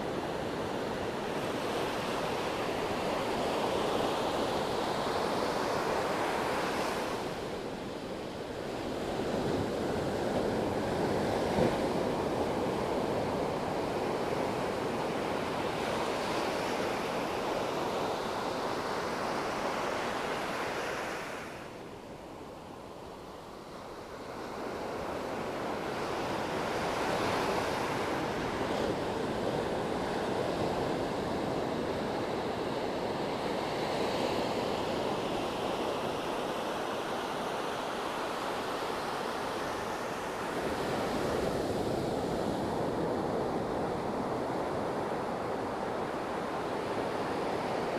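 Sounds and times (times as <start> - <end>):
sea waves breaking on shore: 0.0 - 47.9.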